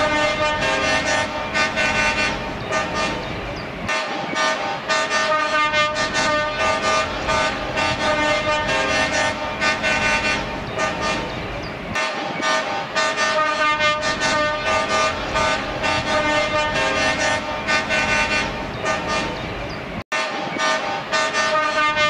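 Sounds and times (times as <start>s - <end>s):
truck air horns blasting: 0.0s - 19.5s, 20.1s - 22.0s.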